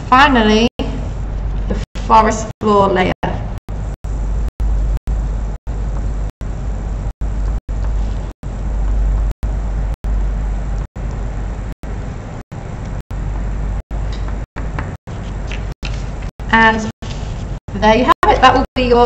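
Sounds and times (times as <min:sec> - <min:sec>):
low background rumble: 0:00.0 - 0:15.4.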